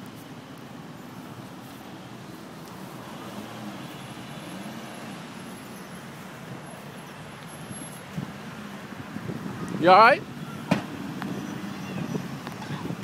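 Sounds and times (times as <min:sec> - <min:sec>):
steady road traffic: 0:00.0 - 0:13.0.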